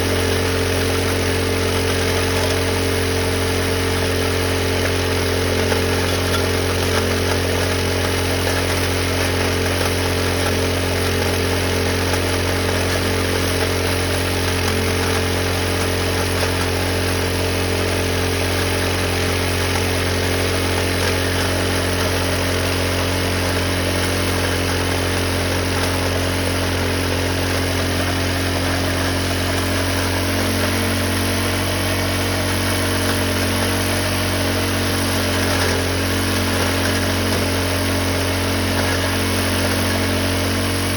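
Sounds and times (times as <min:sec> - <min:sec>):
drilling rig engine humming: 0:00.0 - 0:40.9.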